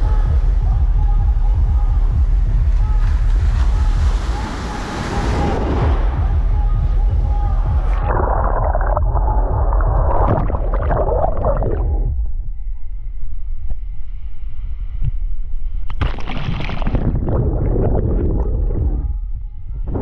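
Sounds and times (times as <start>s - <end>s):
underwater surf rumble: 0.0s - 20.0s.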